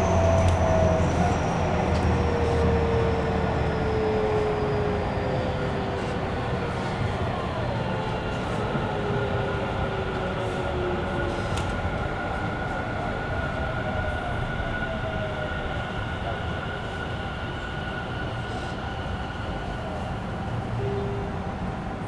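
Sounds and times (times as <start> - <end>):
train traction motor whine: 0.0 - 21.9
train wheels rumbling on rails: 0.0 - 22.0.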